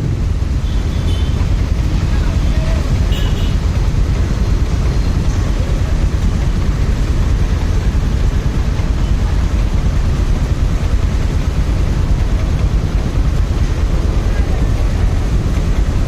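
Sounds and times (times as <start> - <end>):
motorcycle engine: 0.0 - 16.0
road noise: 0.0 - 16.0.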